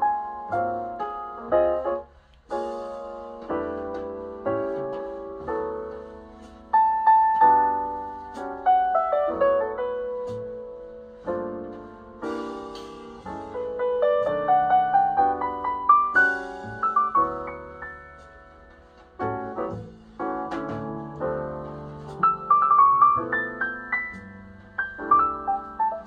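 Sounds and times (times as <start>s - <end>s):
piano music through speakers: 0.0s - 26.0s.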